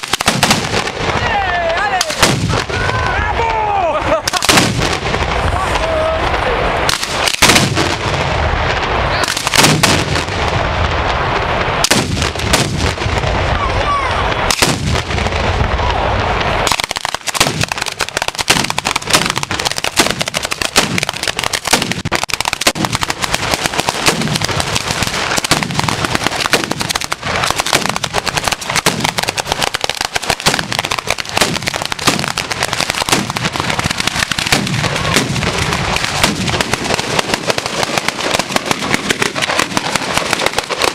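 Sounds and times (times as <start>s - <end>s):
firework booms and bangs: 0.0s - 40.9s
rapid firework crackle: 0.0s - 40.9s.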